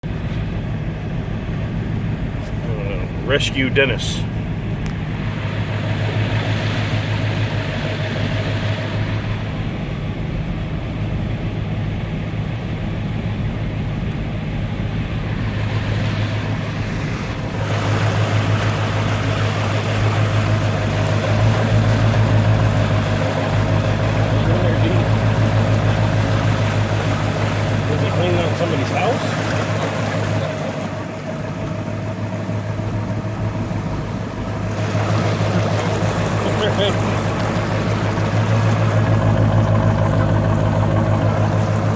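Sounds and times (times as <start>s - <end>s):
vehicle engine droning: 0.0s - 41.9s
water rushing: 0.0s - 41.9s.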